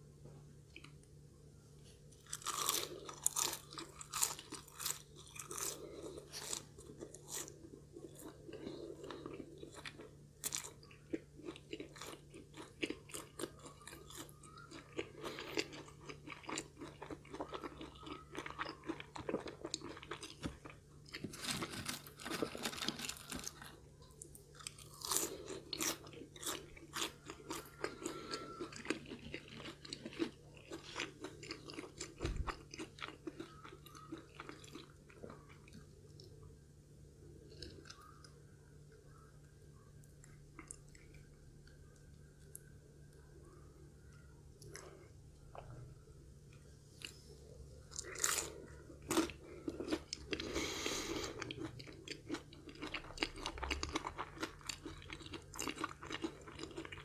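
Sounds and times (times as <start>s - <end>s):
chewing crispy fries: 0.6s - 1.2s, 2.1s - 57.0s.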